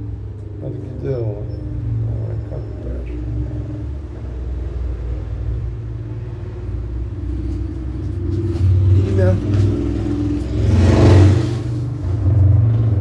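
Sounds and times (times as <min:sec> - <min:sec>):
faint hum: 0:00.0 - 0:10.6
low rumble: 0:00.0 - 0:13.0.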